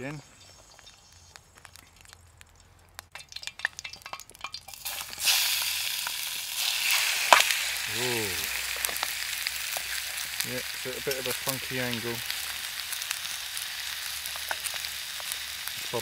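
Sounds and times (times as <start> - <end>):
chicken sizzling in a pan: 3.2 - 16.0.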